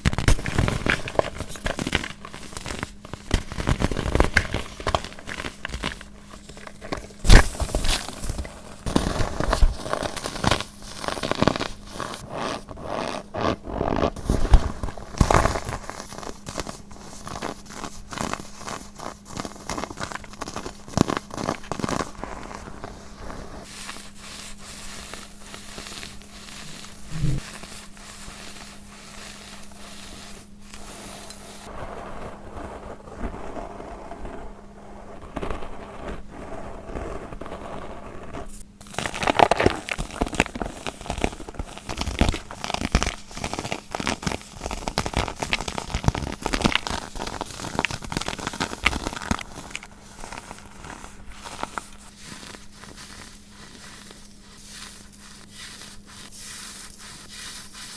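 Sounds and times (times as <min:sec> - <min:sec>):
baking soda crunching by hand: 0:00.0 - 0:34.4, 0:35.2 - 0:57.9.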